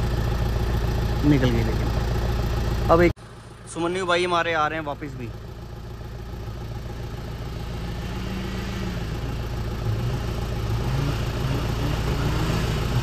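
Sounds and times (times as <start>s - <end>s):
low engine hum: 0.0s - 13.0s
off-road vehicle engine running: 0.0s - 13.0s.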